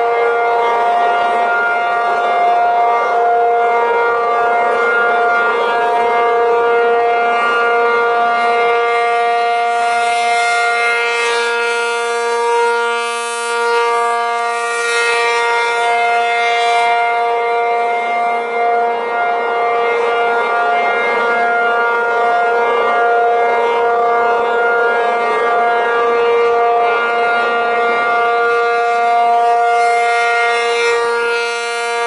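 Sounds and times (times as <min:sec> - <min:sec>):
two-tone warning siren: 0:00.0 - 0:32.0.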